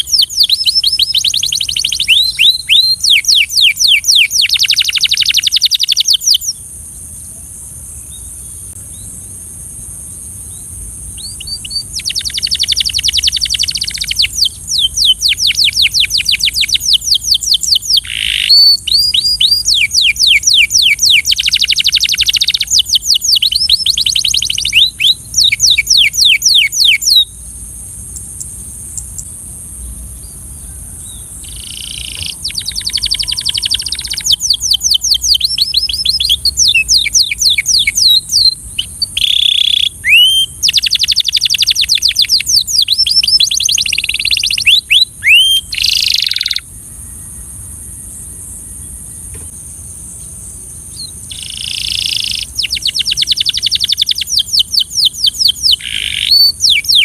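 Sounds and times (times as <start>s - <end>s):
canary singing trills: 0.0s - 6.7s, 10.5s - 49.6s, 50.2s - 57.0s
steady high hiss: 0.0s - 56.8s.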